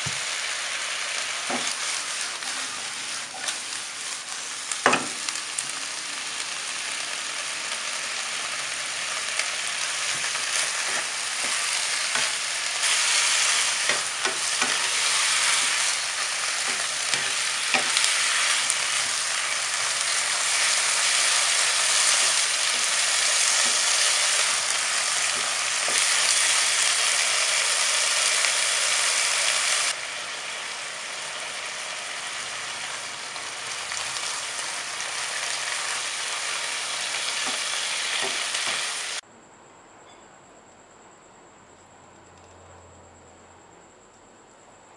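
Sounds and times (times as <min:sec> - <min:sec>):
food sizzling in a wok: 0:00.0 - 0:39.2.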